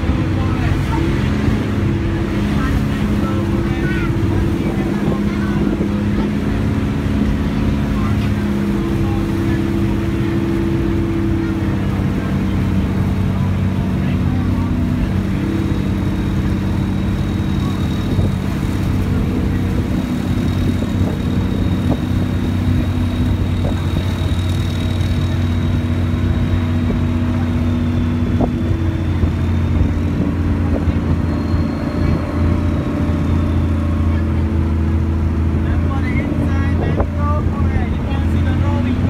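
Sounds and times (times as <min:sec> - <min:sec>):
motorboat engine drone: 0:00.0 - 0:39.0.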